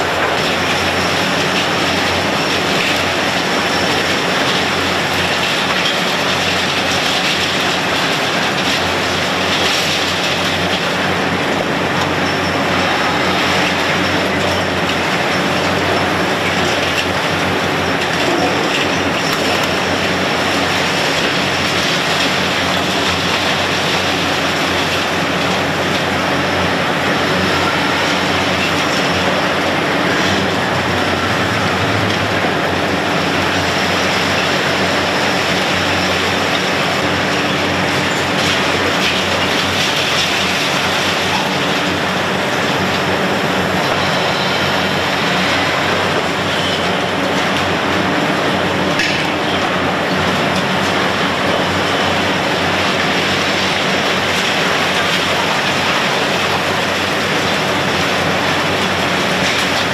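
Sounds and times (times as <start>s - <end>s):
excavator engine and hydraulics: 0.0s - 59.9s.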